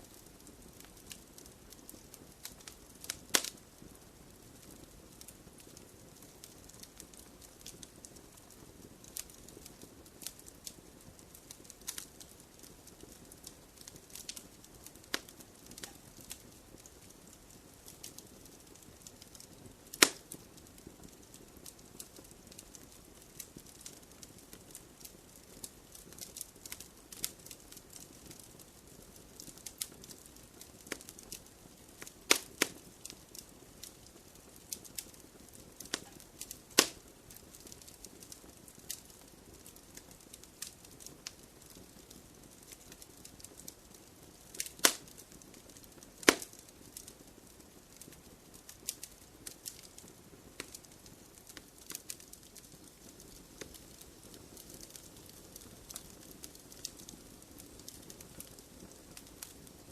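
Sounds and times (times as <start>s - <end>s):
wood fire hissing and crackling: 0.0s - 59.9s
burning logs popping: 0.1s - 59.9s.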